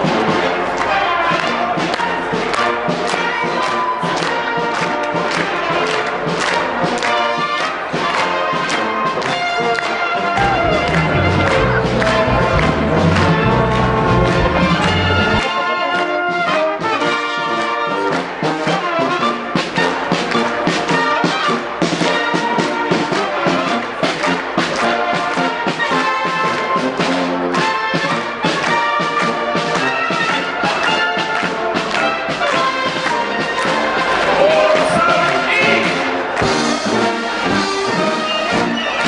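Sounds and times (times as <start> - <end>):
brass-led orchestral music: 0.0 - 39.0.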